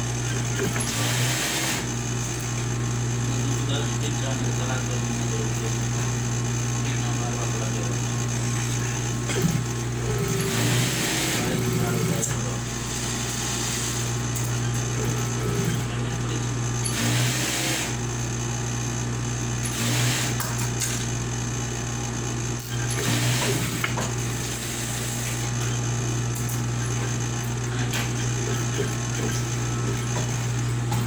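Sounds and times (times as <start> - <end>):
sewing machine running: 0.0 - 31.0.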